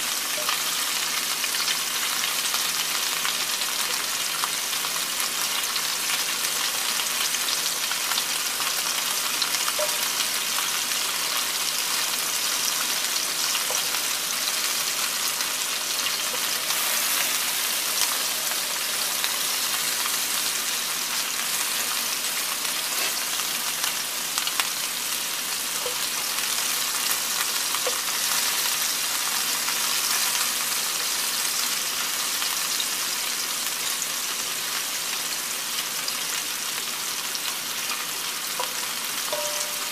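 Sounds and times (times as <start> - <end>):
meatballs sizzling in oil: 0.0 - 39.9.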